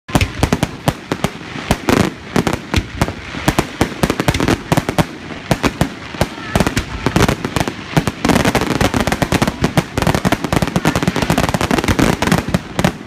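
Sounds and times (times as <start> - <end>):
fireworks bangs and crackling: 0.1 - 13.0.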